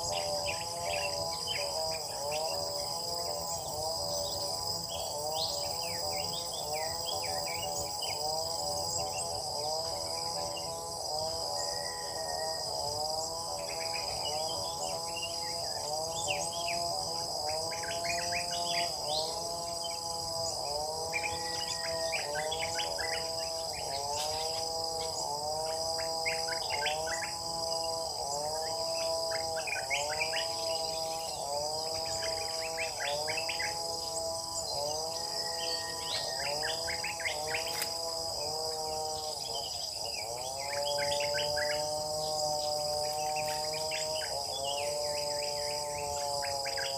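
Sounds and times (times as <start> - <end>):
insects buzzing: 0.0 - 46.9.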